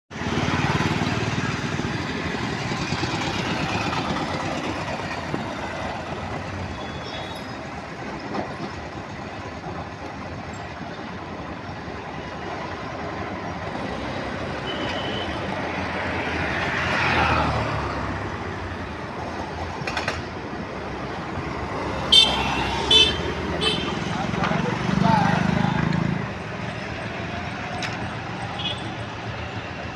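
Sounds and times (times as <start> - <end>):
road traffic: 0.1 - 29.9.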